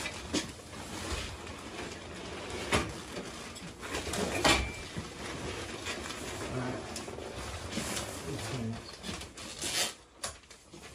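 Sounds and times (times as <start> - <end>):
plastic crinkling and scraping: 0.0 - 10.9.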